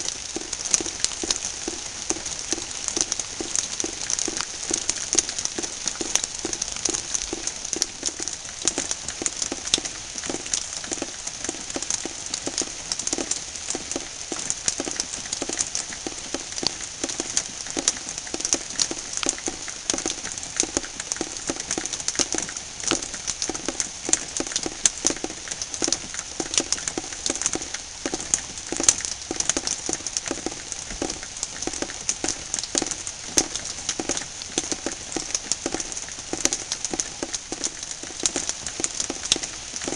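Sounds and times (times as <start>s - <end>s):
rain falling into water: 0.0s - 39.9s.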